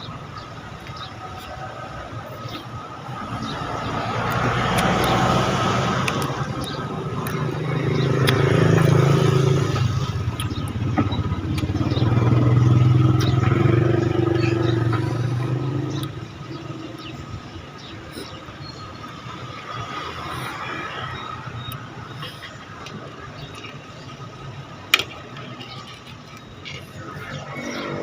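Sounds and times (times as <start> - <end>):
motor vehicles passing: 0.0 - 28.0.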